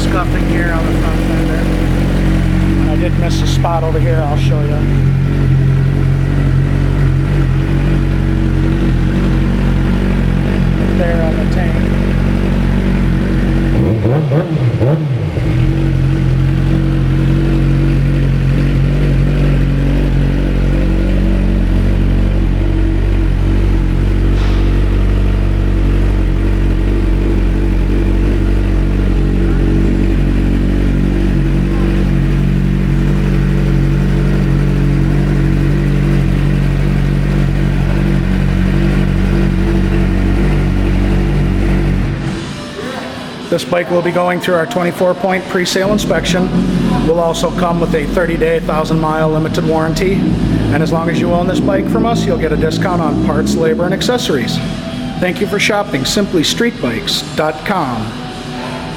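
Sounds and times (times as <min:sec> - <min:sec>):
motorcycle engine idling: 0:00.0 - 0:42.8, 0:43.4 - 0:53.0.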